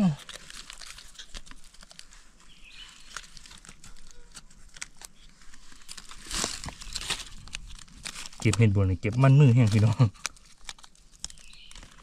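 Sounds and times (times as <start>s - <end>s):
hands picking mushrooms crackling: 0.0s - 12.0s.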